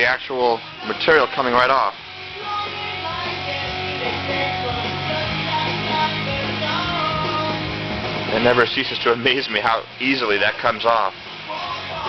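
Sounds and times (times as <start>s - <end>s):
guitar music: 0.0s - 12.0s
sustained bass line: 0.0s - 12.0s.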